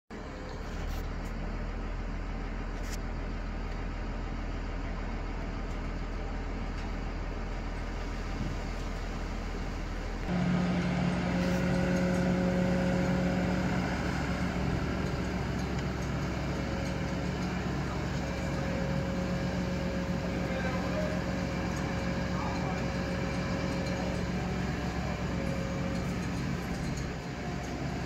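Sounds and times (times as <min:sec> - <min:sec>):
truck engine and hydraulics hum: 0:00.1 - 0:28.0.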